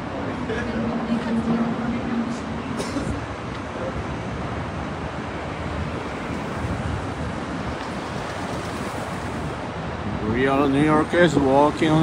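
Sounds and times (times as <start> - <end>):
cars driving by: 0.0 - 12.0
wind on microphone: 0.0 - 12.0.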